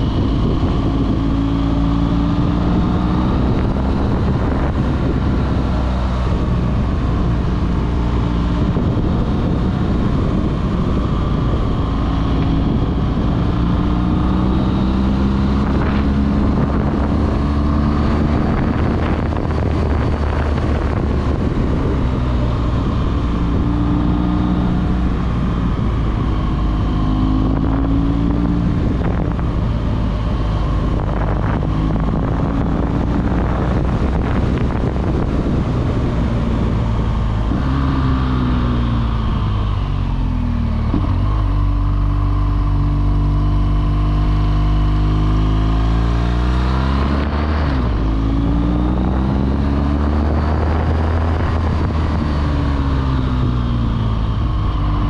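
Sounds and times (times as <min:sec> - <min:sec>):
motorcycle engine revving: 0:00.0 - 0:55.0
wind on microphone: 0:00.0 - 0:55.0.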